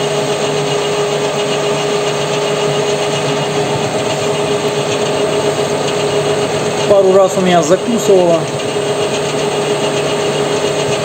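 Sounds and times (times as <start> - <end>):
lathe whining: 0.0 - 11.0
cutter scraping steel shaft: 0.2 - 11.0.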